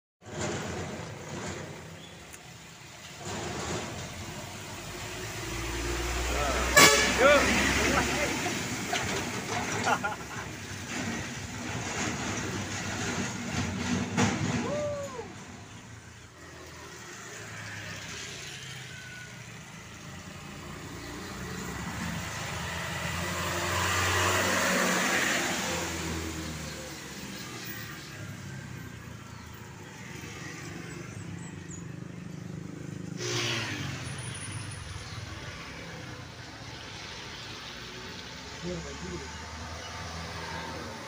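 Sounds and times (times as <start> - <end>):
truck passing by: 0.2 - 41.0.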